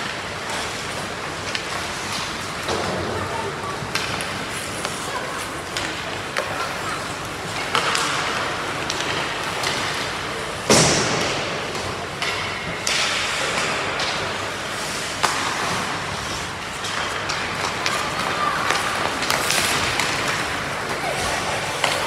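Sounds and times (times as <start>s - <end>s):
skates scraping ice: 0.0s - 22.0s.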